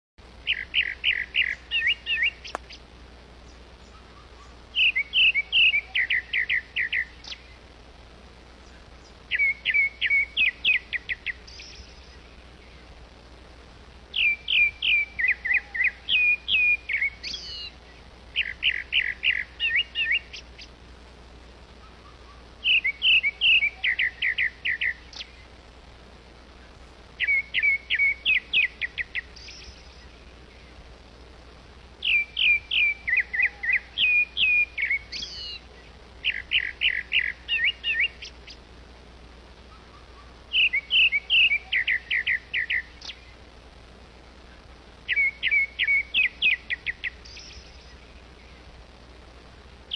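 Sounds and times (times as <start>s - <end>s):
songbird chirping: 0.2s - 49.9s.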